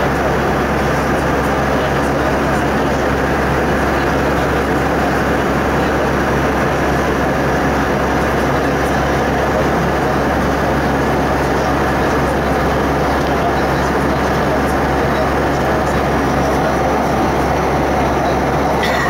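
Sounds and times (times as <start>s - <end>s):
airliner cabin engine and airflow noise: 0.0s - 19.0s
constant low hum: 0.0s - 19.0s.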